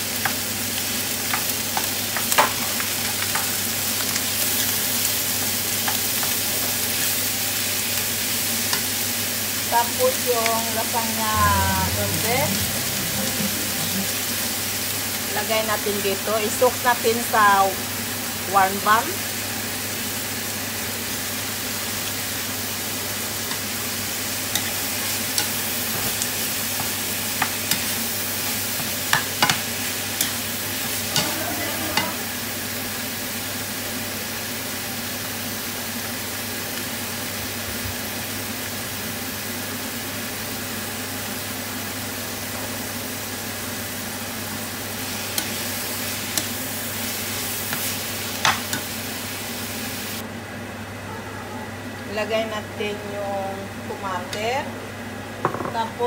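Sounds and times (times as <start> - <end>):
meat sizzling in a pan: 0.0 - 50.2.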